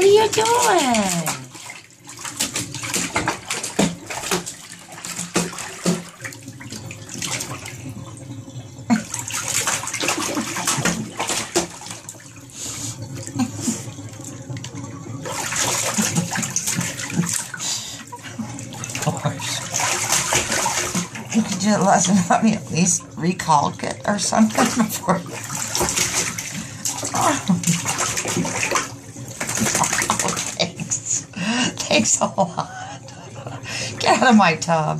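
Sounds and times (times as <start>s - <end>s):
dog splashing in bathtub: 0.0s - 34.9s.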